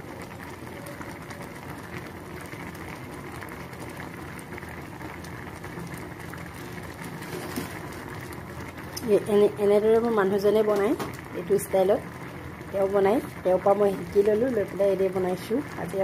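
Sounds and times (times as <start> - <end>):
water boiling with bubbling: 0.0 - 16.0.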